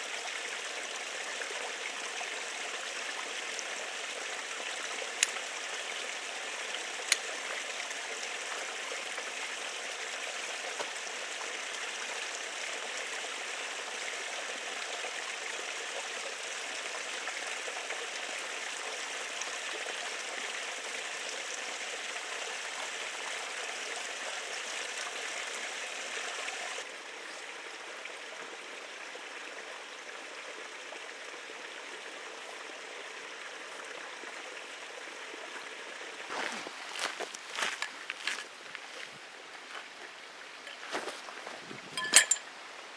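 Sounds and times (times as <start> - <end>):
running water rushing: 0.0 - 42.9.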